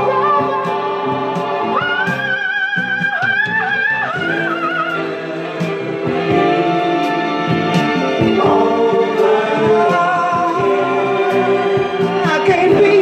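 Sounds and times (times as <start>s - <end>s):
group singing in harmony: 0.0s - 13.0s
music: 0.0s - 13.0s.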